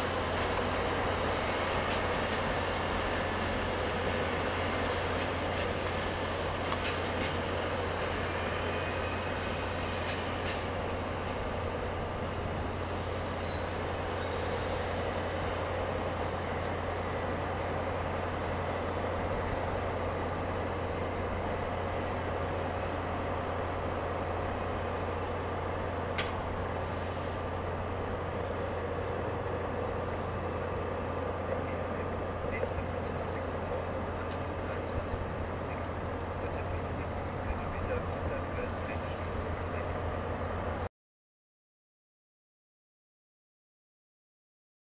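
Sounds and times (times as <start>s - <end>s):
diesel train engine droning: 0.0s - 40.9s.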